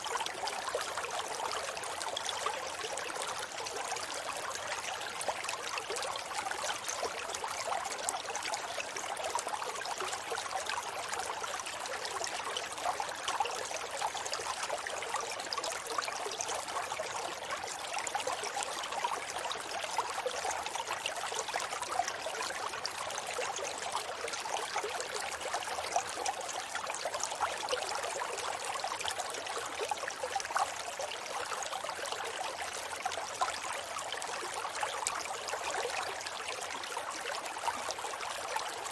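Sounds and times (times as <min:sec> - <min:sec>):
river water babbling over stones: 0:00.0 - 0:38.9.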